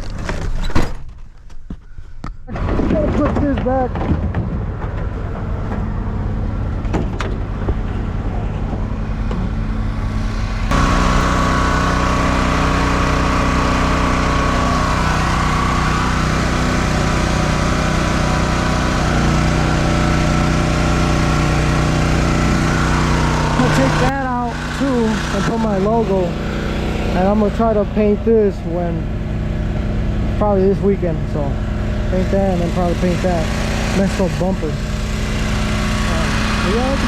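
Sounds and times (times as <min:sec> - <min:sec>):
portable generator engine running: 0:02.5 - 0:37.0.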